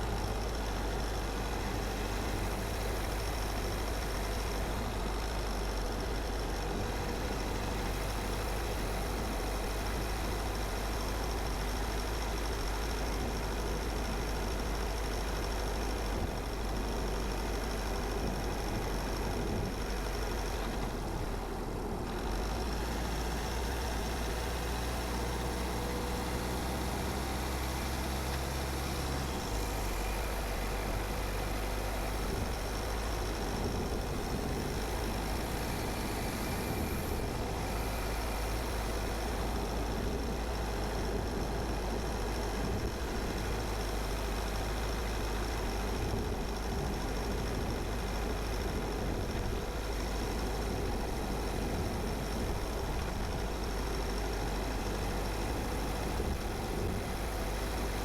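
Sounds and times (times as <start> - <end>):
car engine hum: 0.0 - 58.0
tyre and road noise: 0.0 - 58.0.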